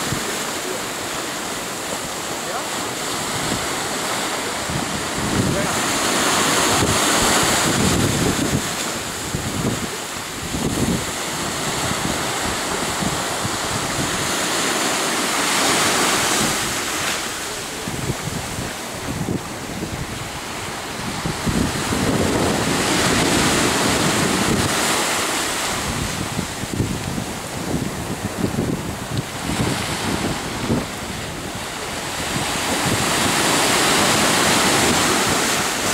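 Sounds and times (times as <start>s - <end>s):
wind buffeting microphone: 0.0s - 14.7s, 15.4s - 35.9s
sea waves washing: 0.0s - 35.9s.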